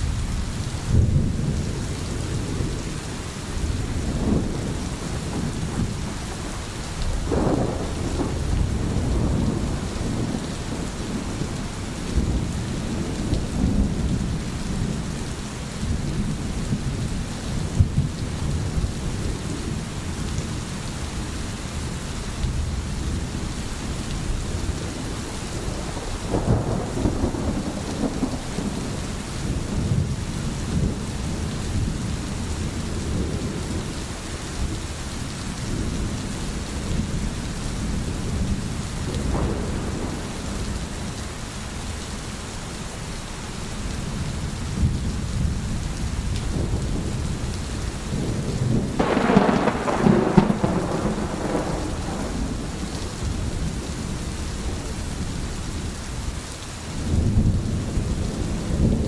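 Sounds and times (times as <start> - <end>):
thunder rumbling: 0.0 - 20.7, 21.8 - 33.9, 35.6 - 41.4, 44.0 - 55.9
steady rain falling: 0.0 - 59.0.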